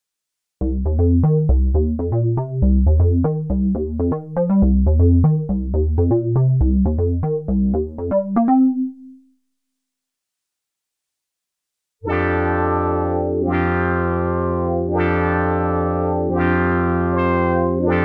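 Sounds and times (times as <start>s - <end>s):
pulsing synth bass line: 0.6s - 9.2s, 12.0s - 18.0s
synthesizer plucked notes: 0.6s - 9.3s, 12.0s - 18.0s.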